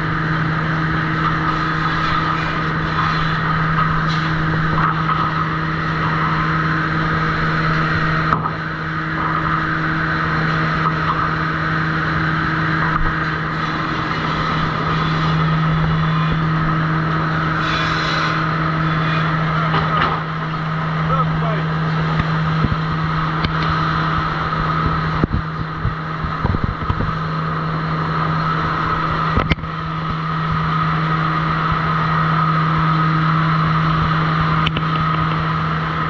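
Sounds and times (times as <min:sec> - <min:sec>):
sawmill machinery humming: 0:00.0 - 0:36.0.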